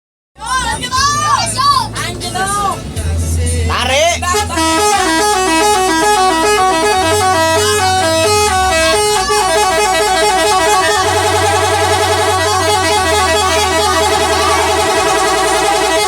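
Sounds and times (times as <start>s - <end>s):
musical bus horn tune: 2.2s - 16.0s.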